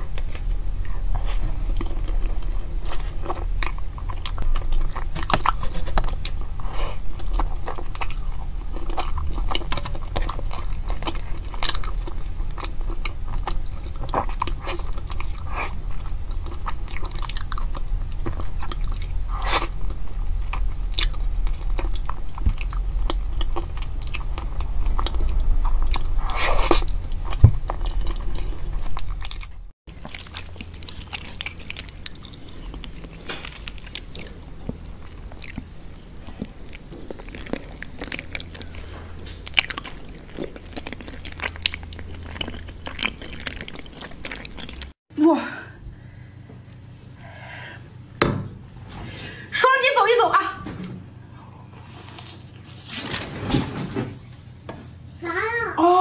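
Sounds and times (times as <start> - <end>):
person chewing buns: 0.0 - 45.0
low hum: 0.0 - 49.5.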